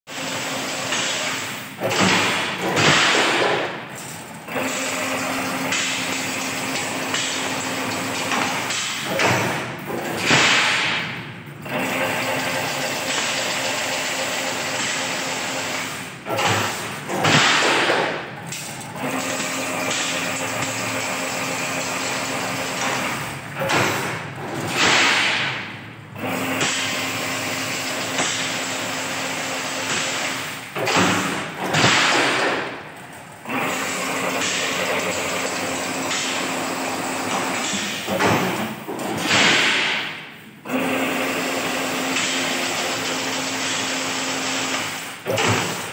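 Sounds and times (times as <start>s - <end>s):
noisy mechanical burst: 0.1s - 45.9s.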